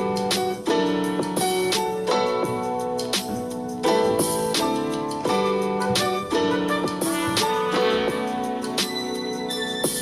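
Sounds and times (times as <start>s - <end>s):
light percussion: 0.0s - 10.0s
sustained keyboard chords: 0.0s - 10.0s.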